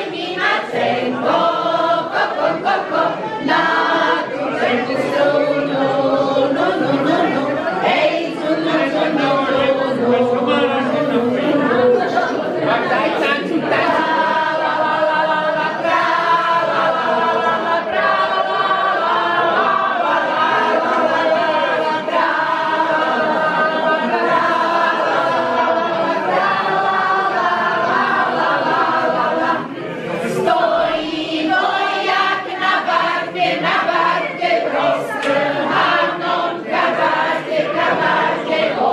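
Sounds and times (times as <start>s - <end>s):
group singing folk song unaccompanied: 0.0s - 38.9s.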